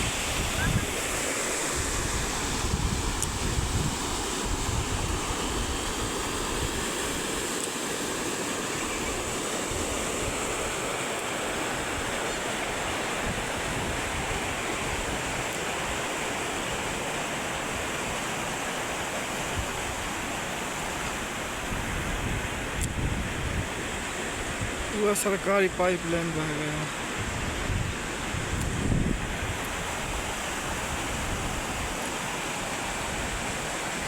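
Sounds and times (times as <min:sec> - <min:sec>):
rushing floodwater: 0:00.0 - 0:34.0.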